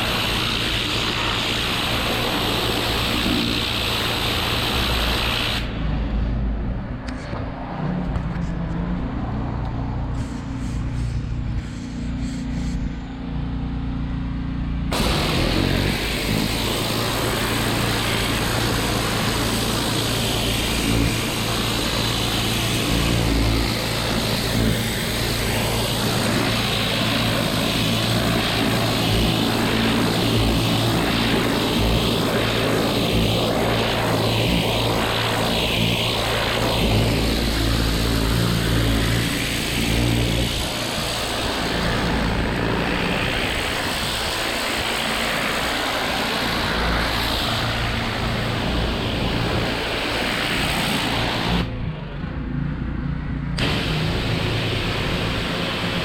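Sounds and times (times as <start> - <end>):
water jet spraying and hissing: 0.0 - 5.9, 14.9 - 51.8, 53.6 - 56.0
pressure washer engine running: 0.0 - 6.2, 10.1 - 51.8, 53.6 - 56.0.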